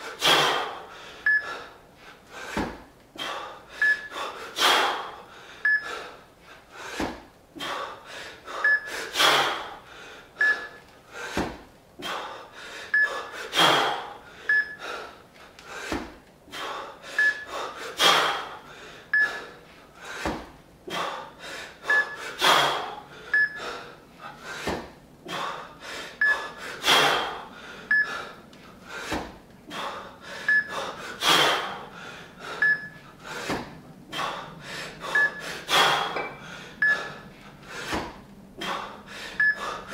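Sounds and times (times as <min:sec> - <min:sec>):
man breathing heavily: 0:00.0 - 0:39.9.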